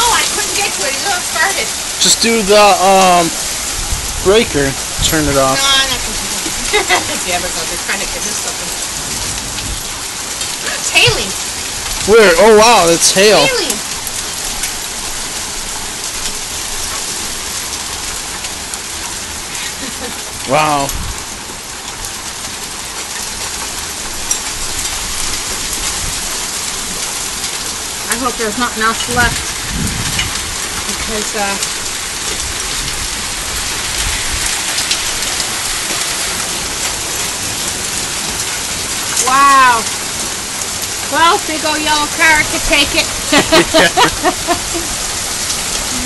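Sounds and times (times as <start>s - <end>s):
hailstones ticking: 0.0s - 46.0s
heavy rain hissing: 0.0s - 46.0s.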